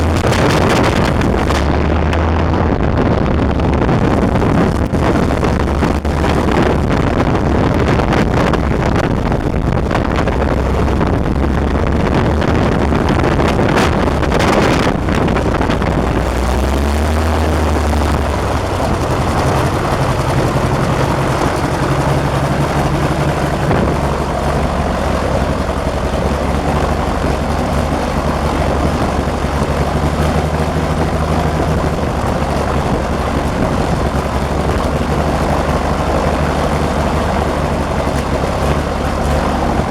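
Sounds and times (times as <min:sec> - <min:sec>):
aircraft propeller engine running: 0:00.0 - 0:39.9.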